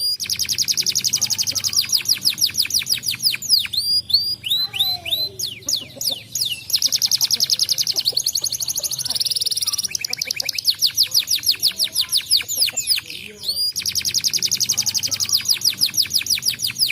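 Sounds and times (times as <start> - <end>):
canary singing: 0.0 - 16.9.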